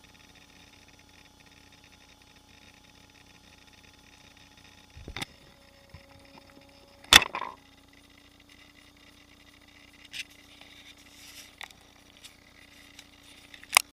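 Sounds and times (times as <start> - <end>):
faint electrical whine: 0.0 - 13.9.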